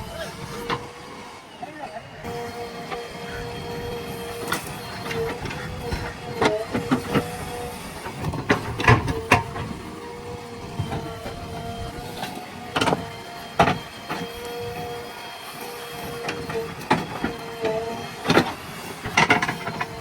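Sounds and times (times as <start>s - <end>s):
diesel engine running with whine: 0.0s - 20.0s.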